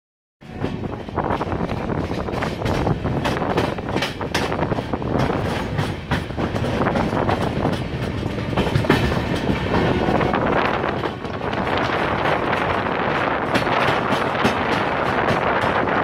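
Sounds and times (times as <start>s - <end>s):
train wheels rumbling on rails: 0.4s - 16.0s.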